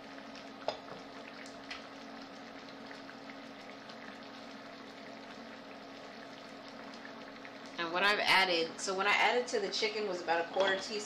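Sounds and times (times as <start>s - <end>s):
low steady hum: 0.0s - 11.0s
sauce bubbling and sizzling: 0.0s - 11.0s.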